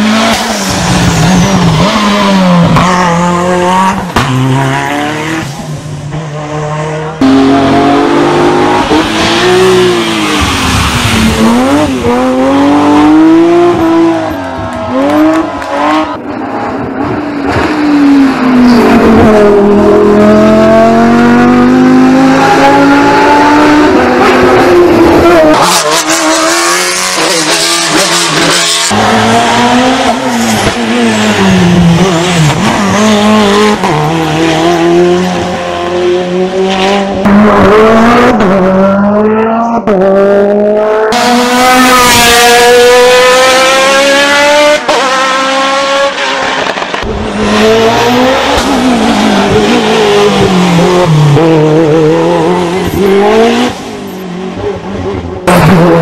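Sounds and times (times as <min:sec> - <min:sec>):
racing car engines revving: 0:00.0 - 0:56.0.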